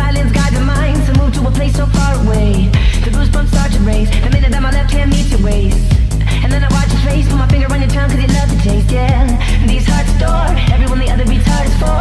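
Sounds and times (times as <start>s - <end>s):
hip hop track with bass beat: 0.0s - 12.0s
sung or rapped vocals: 0.0s - 12.0s.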